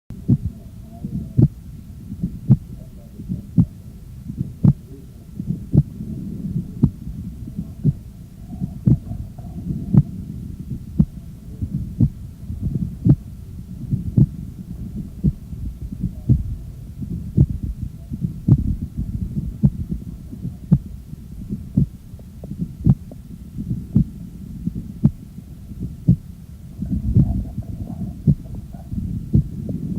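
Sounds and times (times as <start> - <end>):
heartbeats: 0.1 - 29.9
low background noise: 0.1 - 29.9.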